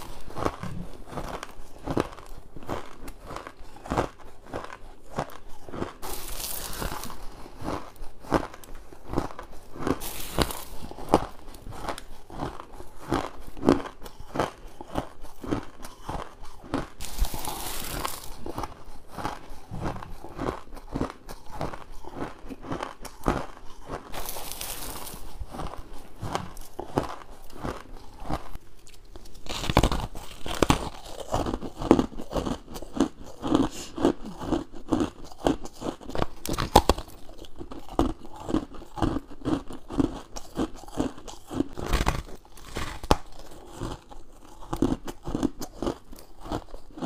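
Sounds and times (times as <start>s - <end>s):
crunching and chewing ice: 0.0s - 47.0s.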